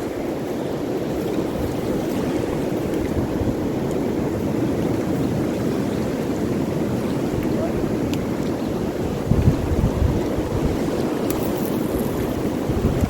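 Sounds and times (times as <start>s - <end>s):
waves washing on shore: 0.0s - 13.0s
wind buffeting microphone: 0.0s - 13.0s.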